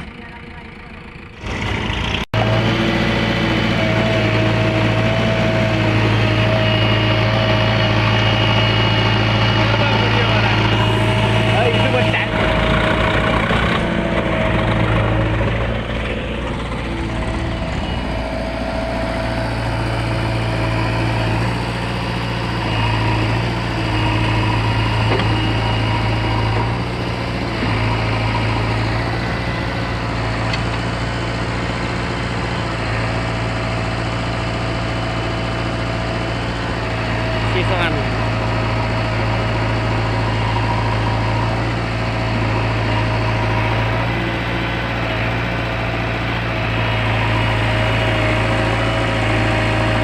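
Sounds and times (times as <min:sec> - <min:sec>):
heavy diesel machinery running: 0:00.0 - 0:50.0.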